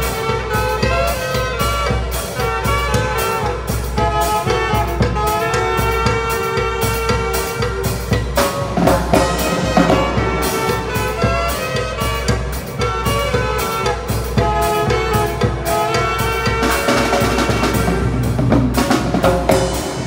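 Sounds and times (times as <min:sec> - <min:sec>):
large bass drum beat: 0:00.0 - 0:20.0
saxophones playing melody: 0:00.0 - 0:20.0
snare drums: 0:00.0 - 0:20.0.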